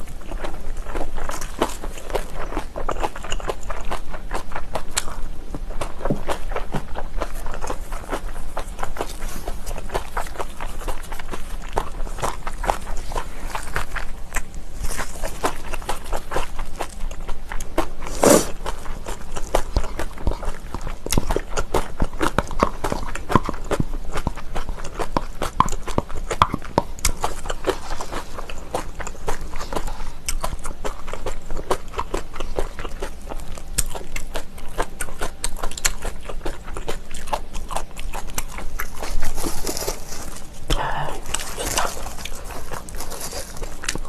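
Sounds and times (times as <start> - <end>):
close chewing and mouth sounds: 0.0 - 44.0.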